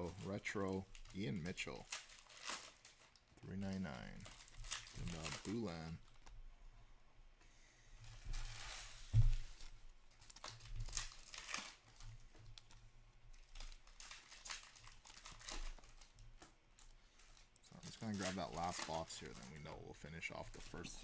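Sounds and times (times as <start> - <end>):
plastic wrapper crinkling: 0.0 - 6.4, 8.3 - 21.0.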